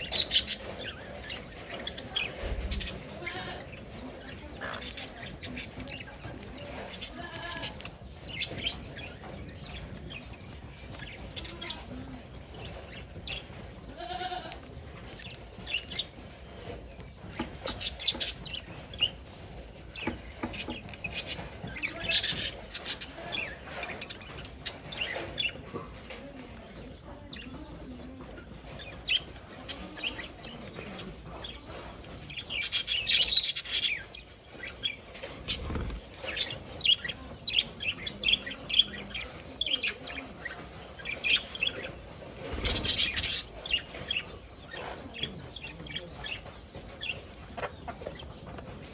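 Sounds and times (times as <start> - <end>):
budgerigars chirping and chattering: 0.0 - 48.9.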